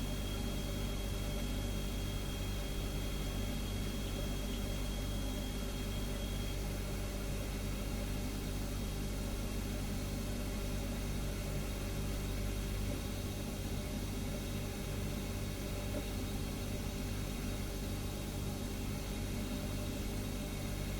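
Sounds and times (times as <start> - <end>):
refrigerator humming: 0.0 - 20.9.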